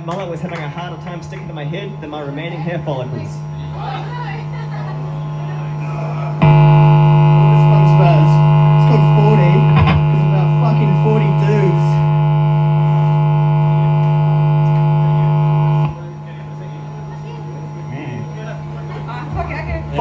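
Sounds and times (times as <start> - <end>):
loud electrical mains hum: 0.0 - 20.0.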